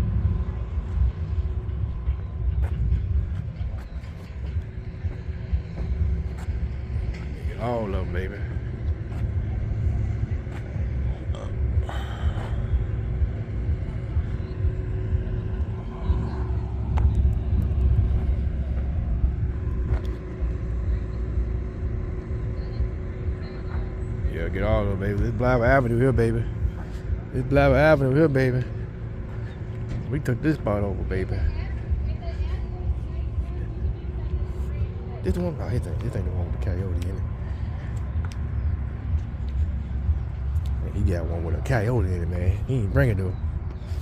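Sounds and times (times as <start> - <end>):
low uneven rumble: 0.0 - 44.0.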